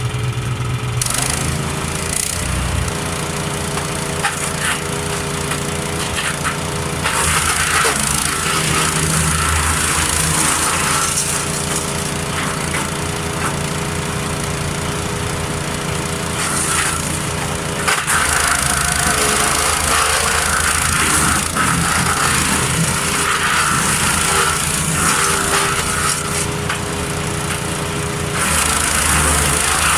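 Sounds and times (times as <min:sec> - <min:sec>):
wood chipper running: 0:00.0 - 0:29.9
branches crackling in chipper: 0:03.8 - 0:15.0, 0:16.0 - 0:29.9.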